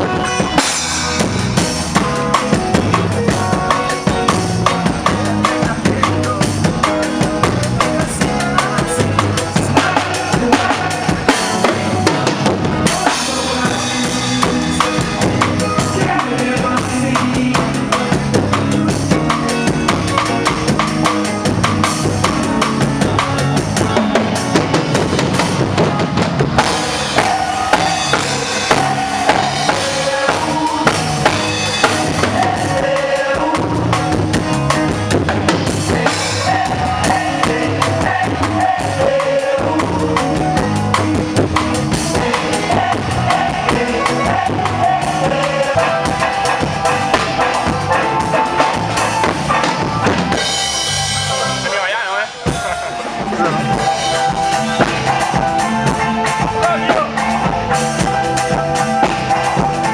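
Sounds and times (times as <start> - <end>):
drum kit beat: 0.0 - 59.9
live band playing: 0.0 - 59.9.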